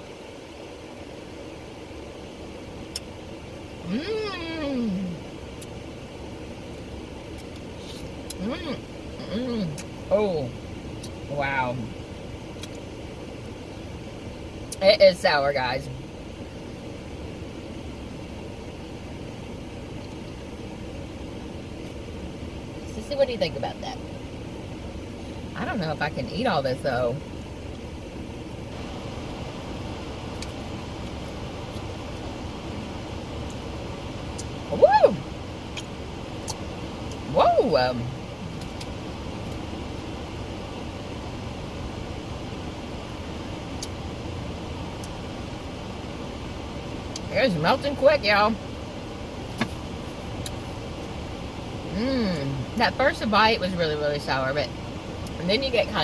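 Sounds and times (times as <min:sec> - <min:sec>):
air conditioning fan blowing: 0:00.0 - 0:56.0
car running heard from inside: 0:00.0 - 0:56.0.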